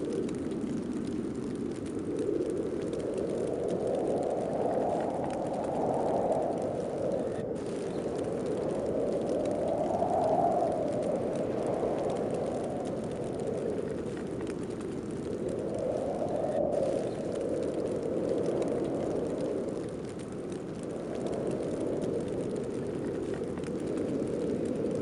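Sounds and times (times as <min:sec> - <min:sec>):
howling gusty wind: 0:00.0 - 0:25.0.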